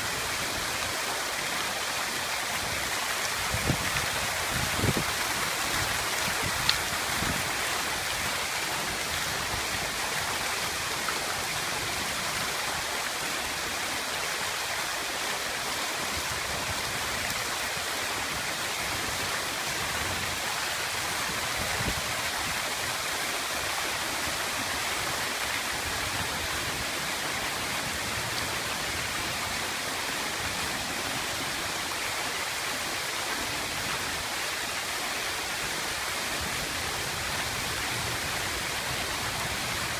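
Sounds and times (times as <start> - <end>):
fountain water splashing into basin: 0.0 - 39.9.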